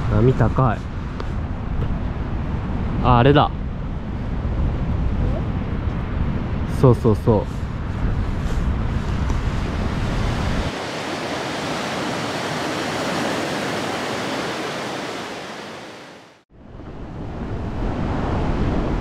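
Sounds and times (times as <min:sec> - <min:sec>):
wind on microphone: 0:00.0 - 0:16.0, 0:16.6 - 0:19.0
rough sea surf: 0:00.0 - 0:19.0.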